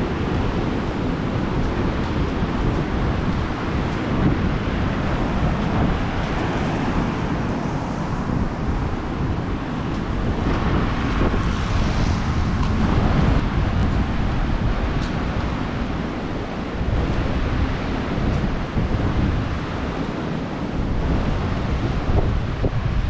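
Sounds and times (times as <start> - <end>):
surf on beach: 0.0 - 23.0
wind buffeting microphone: 0.0 - 23.0.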